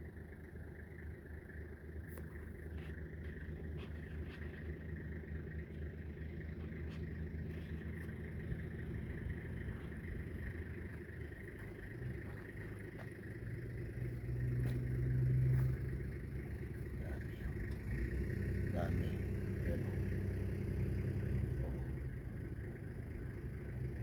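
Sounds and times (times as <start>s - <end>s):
motor engine low rumble: 0.0s - 24.0s.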